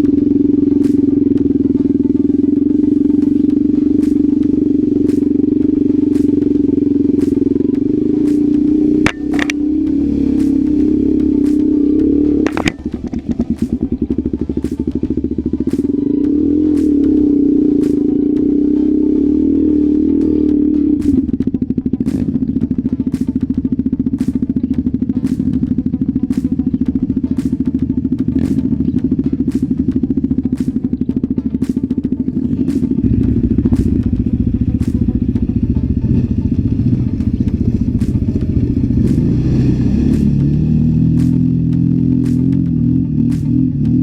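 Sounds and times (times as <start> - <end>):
motorcycle engine running: 0.0 - 44.0
music with steady beat: 0.0 - 44.0.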